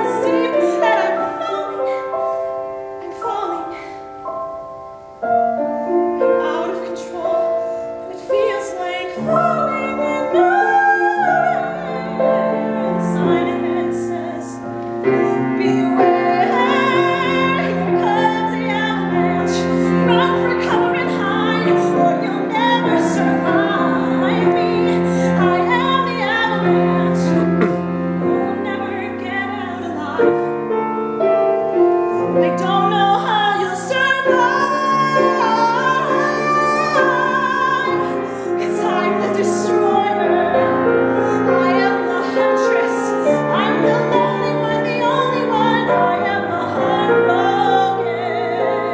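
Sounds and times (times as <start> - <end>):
woman singing a ballad: 0.0 - 4.7, 5.5 - 30.8, 31.7 - 48.9
grand piano: 0.0 - 48.9.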